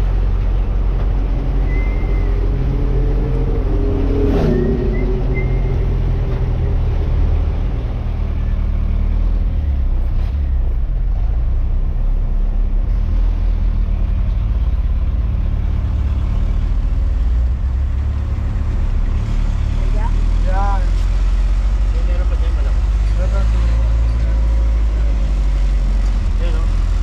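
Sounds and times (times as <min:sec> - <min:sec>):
road noise: 0:00.0 - 0:27.0
truck engine rumbling: 0:00.0 - 0:27.0.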